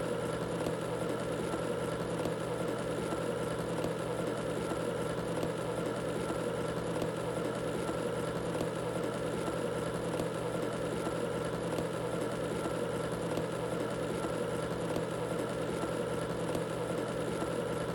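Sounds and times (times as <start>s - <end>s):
water boiling in a kettle: 0.1s - 17.9s.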